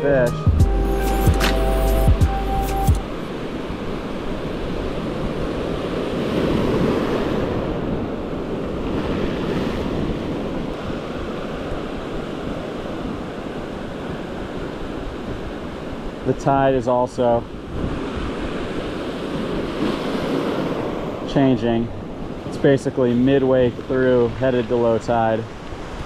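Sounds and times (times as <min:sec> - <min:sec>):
wind on microphone: 0:03.0 - 0:16.8, 0:17.4 - 0:26.0.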